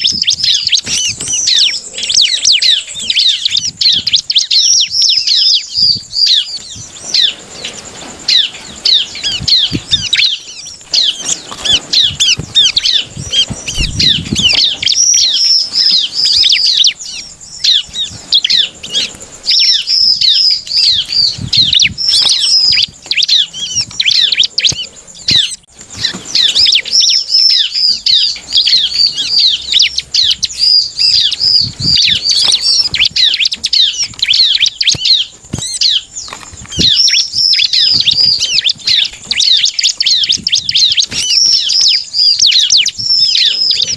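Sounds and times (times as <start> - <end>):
bird chirping rapidly: 0.0 - 43.9
wings fluttering: 0.0 - 43.9.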